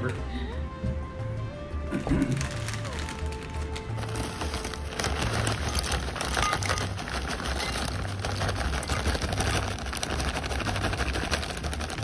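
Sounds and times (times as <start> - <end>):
foil bag crinkling: 2.2 - 12.0
chips clattering into glass bowl: 2.3 - 12.0.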